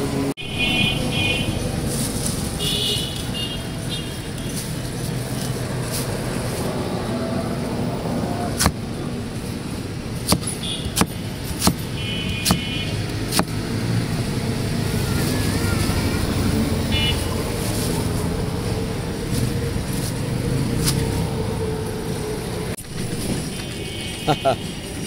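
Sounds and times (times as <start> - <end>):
street traffic hum: 0.0 - 25.0.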